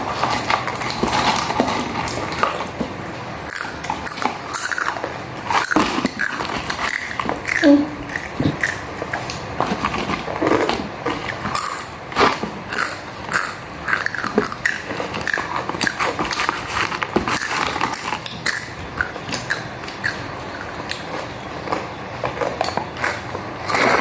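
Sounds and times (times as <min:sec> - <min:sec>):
biting and chewing: 0:00.0 - 0:24.0.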